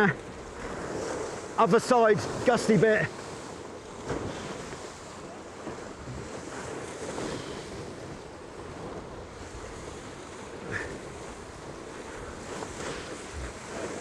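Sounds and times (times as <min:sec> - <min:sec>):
water rushing past hulls: 0:00.0 - 0:14.0
wind buffeting microphone: 0:00.0 - 0:14.0.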